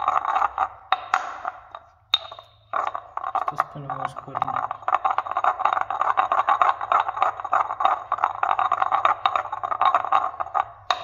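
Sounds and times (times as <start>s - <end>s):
stone pestle grinding in mortar: 0.0s - 11.0s.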